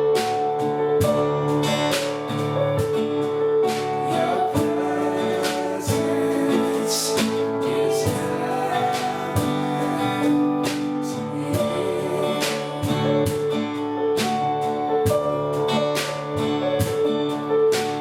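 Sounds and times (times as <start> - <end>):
strummed acoustic guitar: 0.0 - 18.0
worship music: 0.0 - 18.0.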